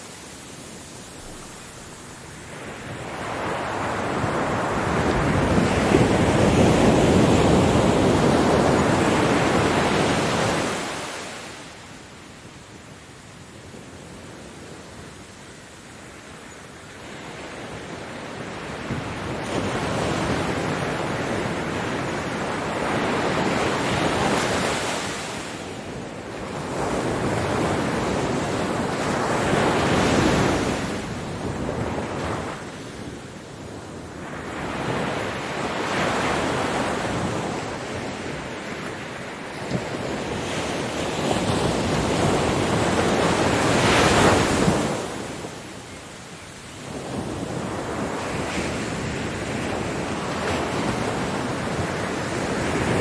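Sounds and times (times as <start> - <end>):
ocean surf breaking on a beach: 0.0 - 53.0.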